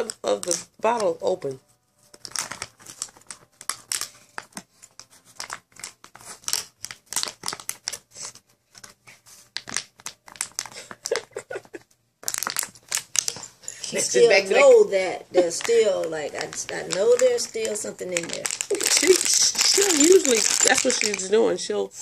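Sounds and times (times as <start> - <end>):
dog tearing plastic bottle: 0.0 - 1.2, 2.1 - 11.3, 12.2 - 13.5, 15.4 - 21.3
plastic crinkling: 0.0 - 21.4.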